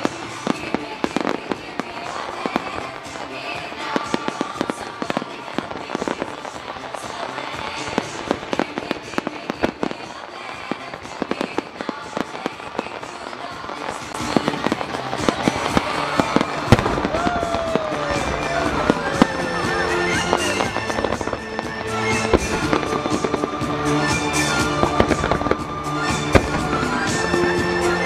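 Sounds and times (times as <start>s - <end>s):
firework shells bursting: 0.0s - 28.0s
music playing: 0.0s - 28.0s.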